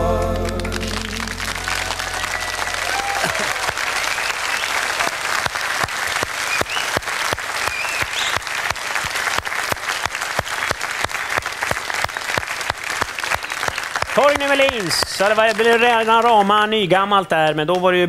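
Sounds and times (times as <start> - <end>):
audience applauding: 0.2 - 16.8.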